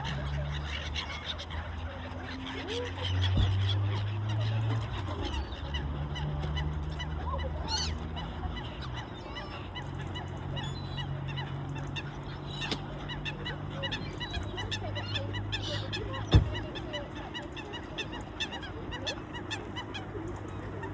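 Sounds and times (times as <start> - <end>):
geese honking: 0.0 - 20.9.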